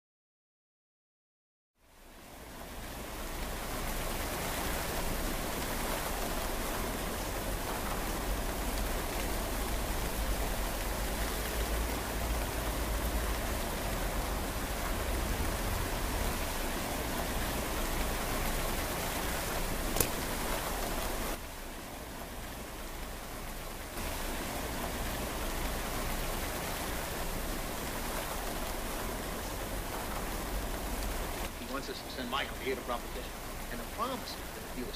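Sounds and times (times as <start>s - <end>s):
steady rain falling: 1.8s - 34.9s.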